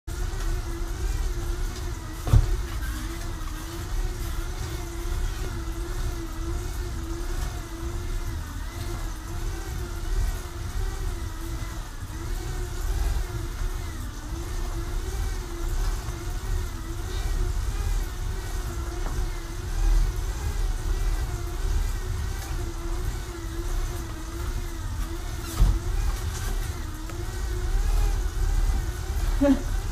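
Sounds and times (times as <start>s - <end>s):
bicycle on training rollers whirring: 0.1s - 29.9s.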